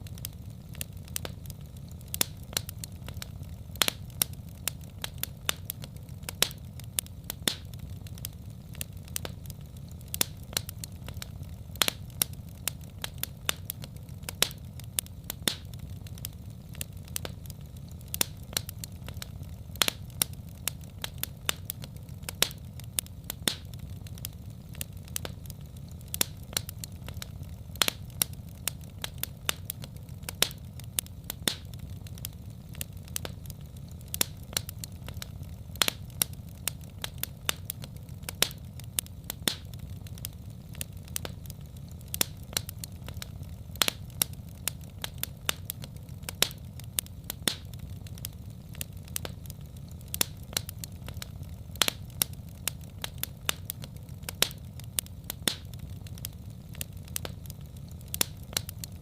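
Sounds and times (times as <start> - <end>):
low rumble of flames: 0.0 - 59.0
wood fire pops and snaps: 0.0 - 59.0.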